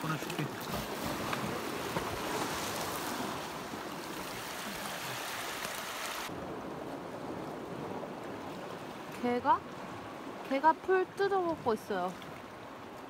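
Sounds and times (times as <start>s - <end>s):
sea surf on rocky shore: 0.0s - 13.0s.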